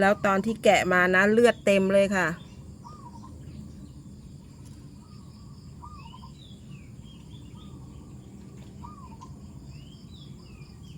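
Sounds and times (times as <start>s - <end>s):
birds chirping: 0.0s - 10.9s
insect drone: 0.0s - 10.9s.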